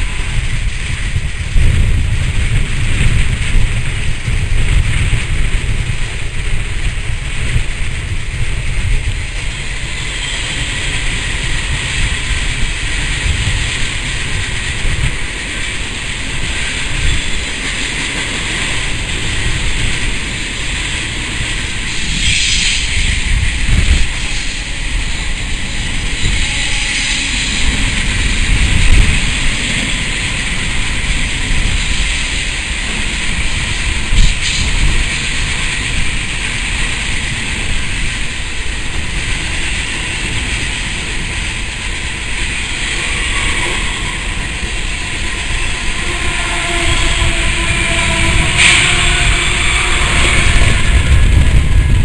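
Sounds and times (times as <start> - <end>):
train rumbling on rails: 0.0 - 52.0
wind buffeting microphone: 0.0 - 52.0
sharp hiss: 9.1 - 51.4.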